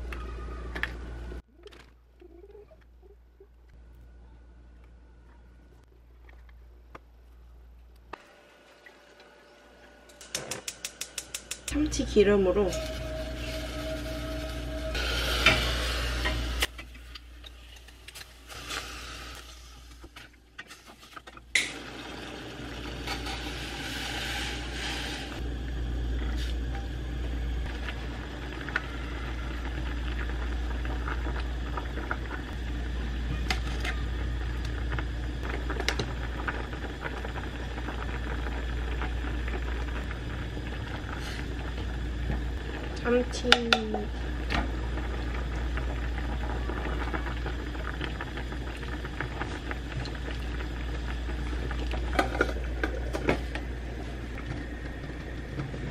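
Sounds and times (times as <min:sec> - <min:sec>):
steady low hum: 0:00.8 - 0:55.9
stew sizzling and bubbling: 0:08.1 - 0:55.9.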